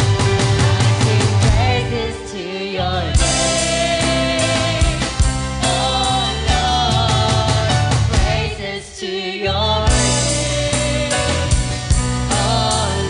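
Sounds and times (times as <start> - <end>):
woman singing into a microphone: 0.6 - 11.6.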